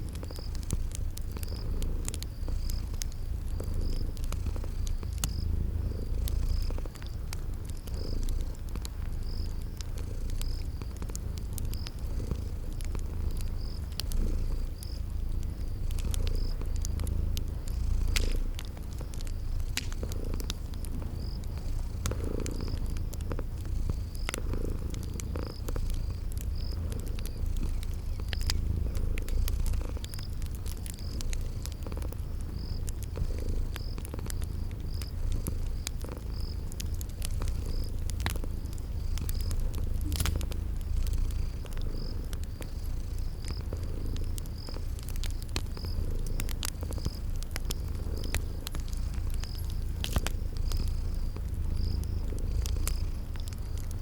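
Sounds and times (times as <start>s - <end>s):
cat purring: 0.0s - 54.0s
cricket chirping: 0.0s - 54.0s
wood fire crackling: 0.0s - 54.0s.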